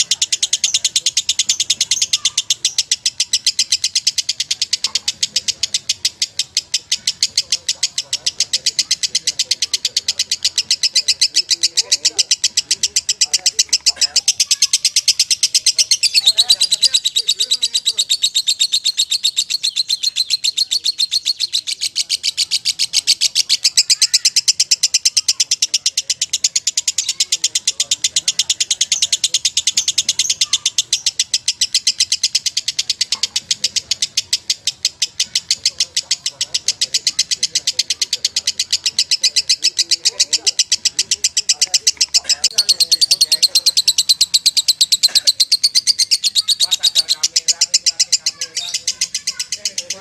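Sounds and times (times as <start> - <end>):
bird chattering trill: 0.0 - 50.0.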